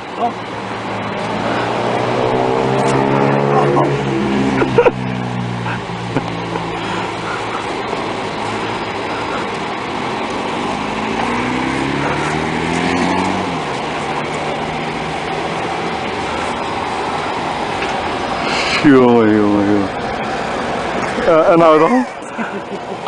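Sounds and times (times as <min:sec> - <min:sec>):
motorcycle engine revving: 0:00.0 - 0:21.8.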